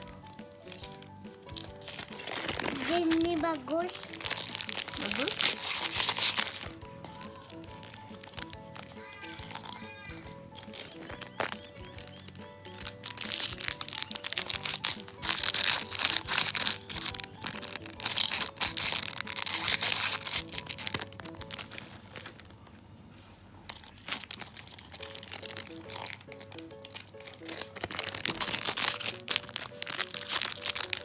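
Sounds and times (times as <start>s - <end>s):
plastic wrapping crinkling and tearing: 0.0s - 22.9s, 23.6s - 31.0s
background music: 0.0s - 31.0s.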